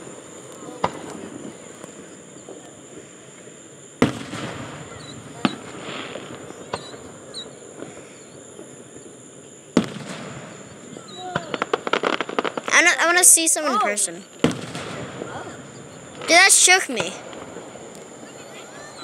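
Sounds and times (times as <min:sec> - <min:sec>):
fireworks crackle: 0:00.0 - 0:19.0
fireworks exploding: 0:00.0 - 0:19.0.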